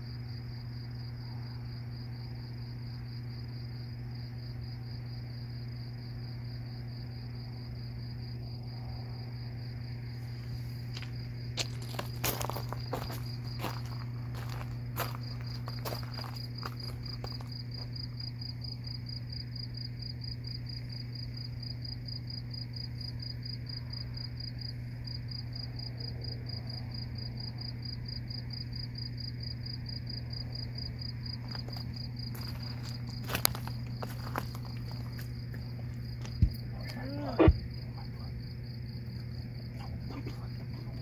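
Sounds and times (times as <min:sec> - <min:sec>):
cricket trilling: 0:00.0 - 0:41.0
steady low hum: 0:00.0 - 0:41.0.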